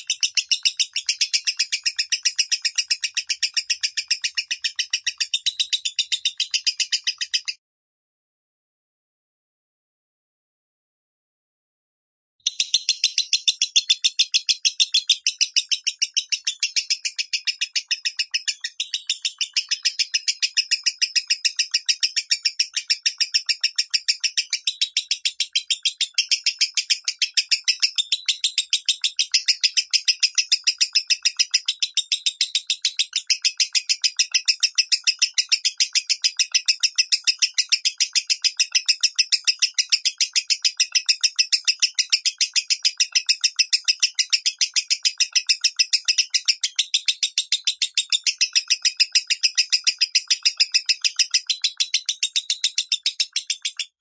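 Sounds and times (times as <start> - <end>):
bird chattering with shrill chirps: 0.0 - 7.6, 12.4 - 54.0.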